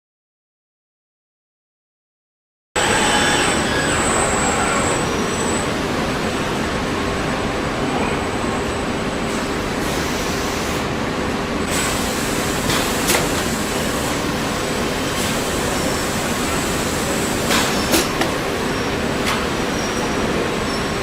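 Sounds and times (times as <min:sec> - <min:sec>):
steady machinery noise: 0:02.8 - 0:21.0.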